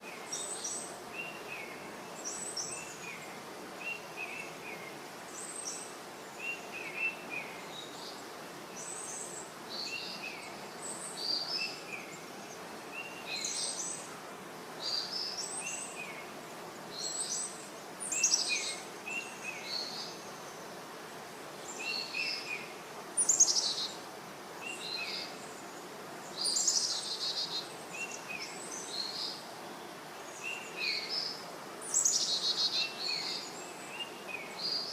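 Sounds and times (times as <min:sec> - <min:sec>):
steady outdoor hiss: 0:00.0 - 0:34.9.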